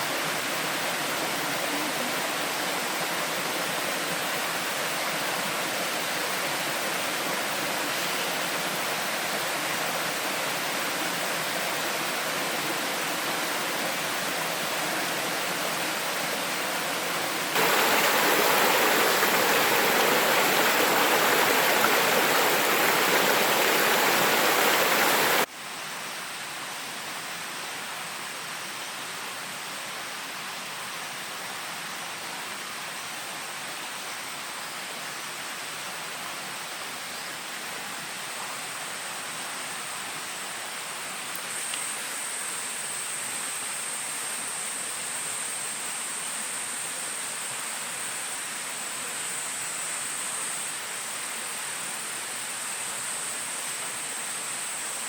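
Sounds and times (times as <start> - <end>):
rushing water hiss: 0.0 - 55.0.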